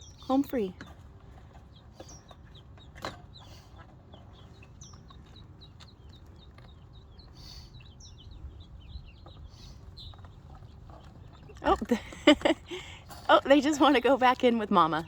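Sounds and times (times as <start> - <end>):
ducklings peeping: 0.0 - 14.2.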